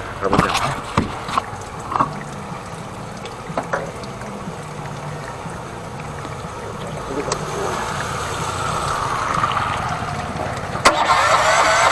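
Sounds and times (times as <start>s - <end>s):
pump humming: 0.0s - 11.9s
rushing water: 0.0s - 11.9s.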